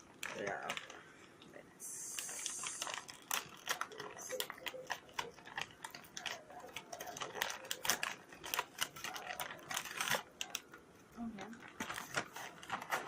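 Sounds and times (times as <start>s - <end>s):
snack packet crinkling: 0.0s - 13.0s.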